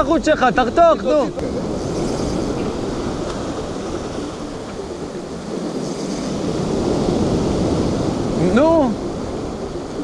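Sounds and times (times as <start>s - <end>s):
wind buffeting microphone: 0.0s - 10.0s
surf washing: 0.1s - 10.0s.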